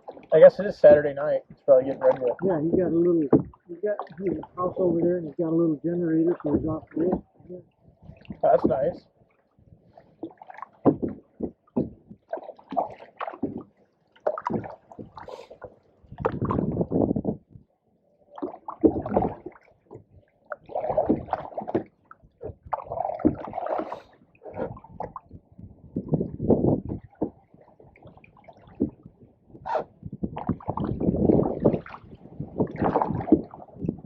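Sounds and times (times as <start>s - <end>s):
paddles splashing in water: 0.0s - 8.9s, 9.9s - 17.4s, 18.3s - 34.0s.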